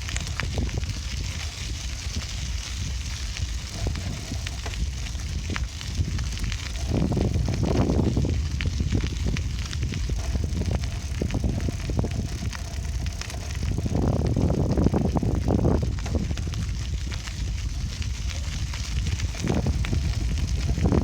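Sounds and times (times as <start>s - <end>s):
bike rattling over path: 0.0s - 21.0s
wind on microphone: 0.0s - 21.0s.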